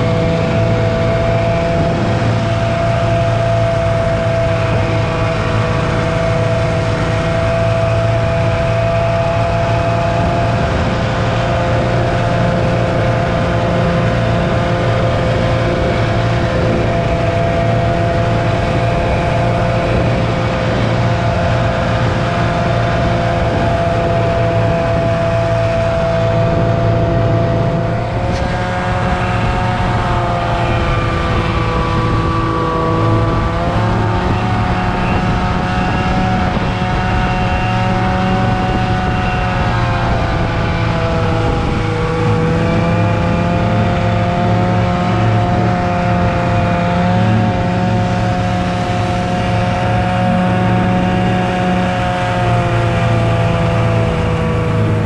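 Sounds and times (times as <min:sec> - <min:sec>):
snowmobile engine whine: 0:00.0 - 0:55.0.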